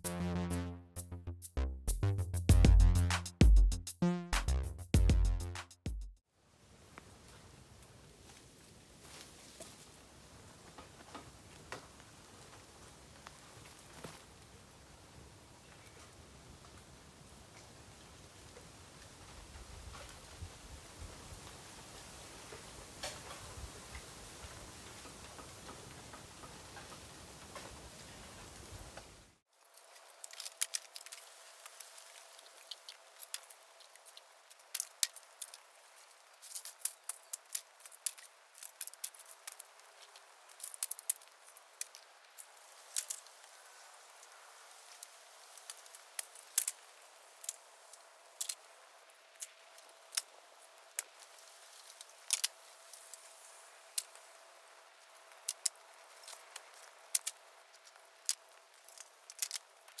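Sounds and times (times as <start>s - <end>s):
faint steady hiss: 6.3s - 60.0s
bamboo fire crackling and popping: 6.6s - 60.0s.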